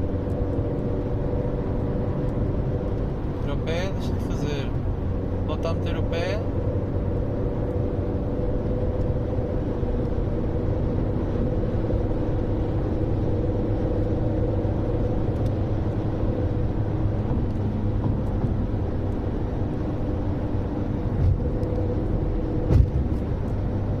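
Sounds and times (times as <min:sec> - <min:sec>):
diesel engine: 0:00.0 - 0:24.0
road noise: 0:00.0 - 0:24.0
steady whine: 0:00.0 - 0:24.0.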